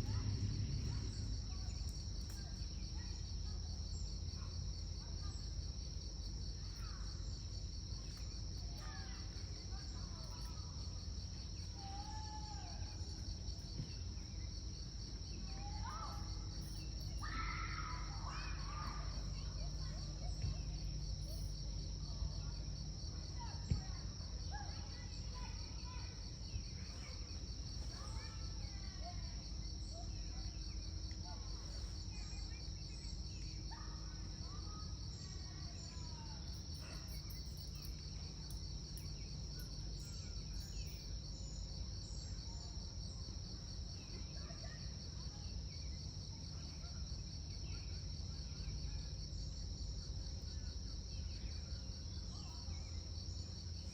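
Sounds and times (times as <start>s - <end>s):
insects trilling: 0.0s - 53.9s.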